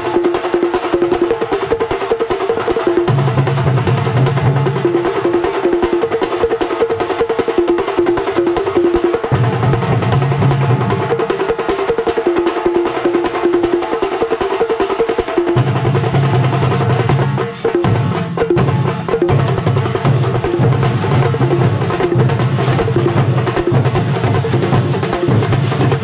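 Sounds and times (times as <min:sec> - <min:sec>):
drum ensemble fast rolling strokes: 0:00.0 - 0:26.0.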